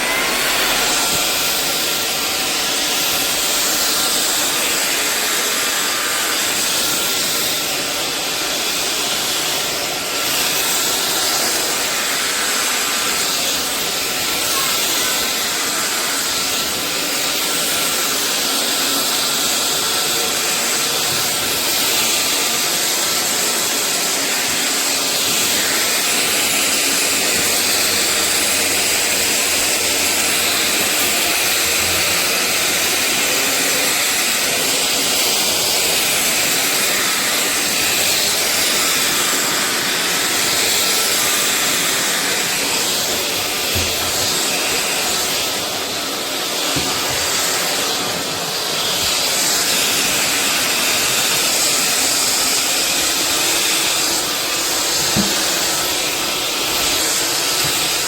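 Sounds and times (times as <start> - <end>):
stick vacuum rushing hiss: 0.0 - 58.0.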